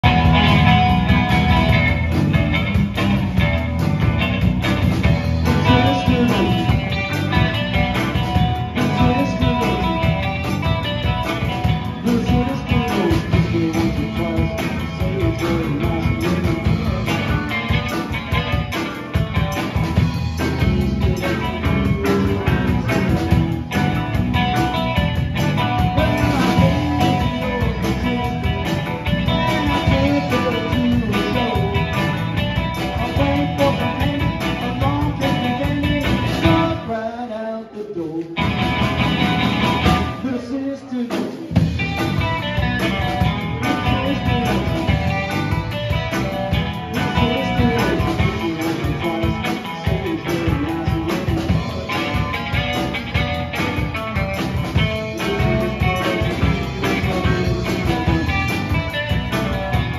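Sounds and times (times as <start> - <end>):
drum kit beat: 0.0 - 36.9, 38.3 - 59.9
electric guitars: 0.0 - 59.9.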